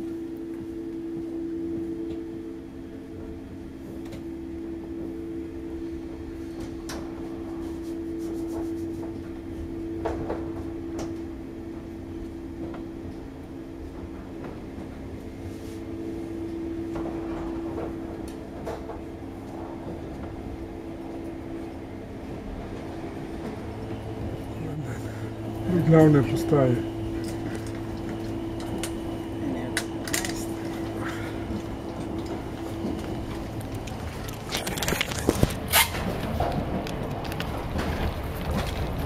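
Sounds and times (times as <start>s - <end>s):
steady electric hum: 0.0s - 39.0s
wheels rumbling on rails: 0.0s - 39.0s.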